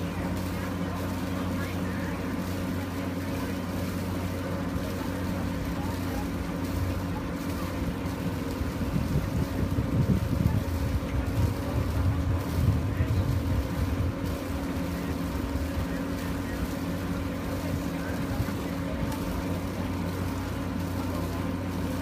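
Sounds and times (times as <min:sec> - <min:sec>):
motorboat engine humming: 0:00.0 - 0:22.0.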